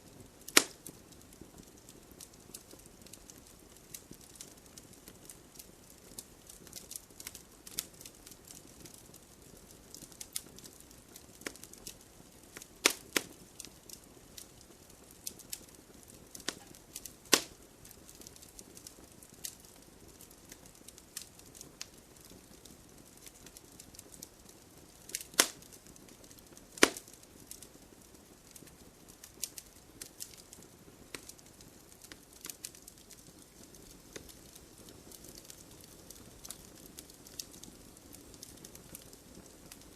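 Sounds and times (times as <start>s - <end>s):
wood fire crackling: 0.0s - 39.9s
loud pops of burning wood: 0.1s - 39.9s.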